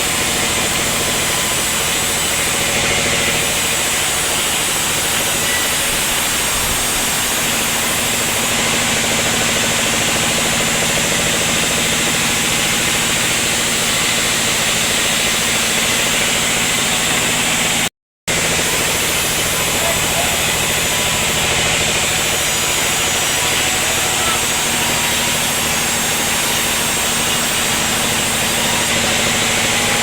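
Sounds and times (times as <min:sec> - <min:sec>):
loud hiss: 0:00.0 - 0:17.3, 0:18.3 - 0:30.0
sawmill machinery drone: 0:00.0 - 0:30.0.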